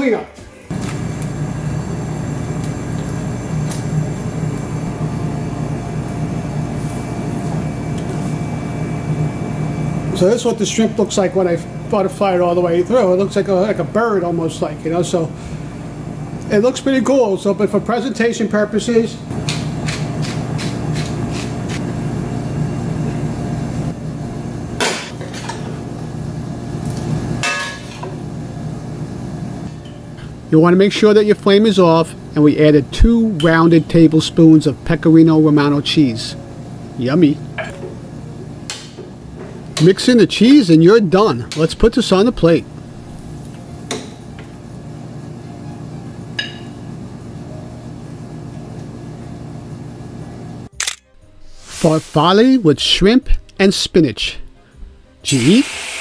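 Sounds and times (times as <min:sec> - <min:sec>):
low kitchen hum: 0:00.0 - 0:55.3.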